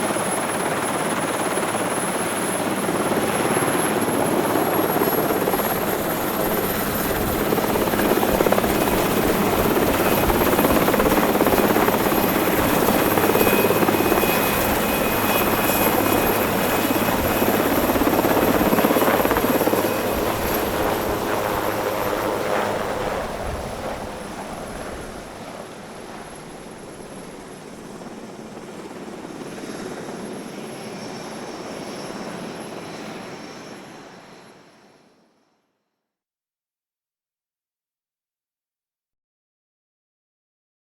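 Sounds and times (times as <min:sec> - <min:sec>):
helicopter engines and rotor: 0:00.0 - 0:35.4.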